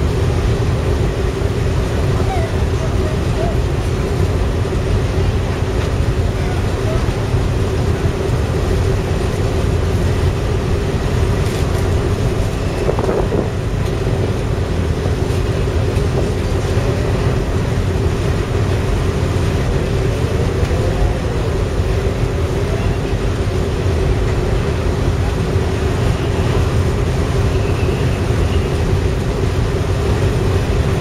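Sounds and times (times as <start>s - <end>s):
constant hum: 0.0s - 31.0s
ferry engines rumbling: 0.0s - 31.0s.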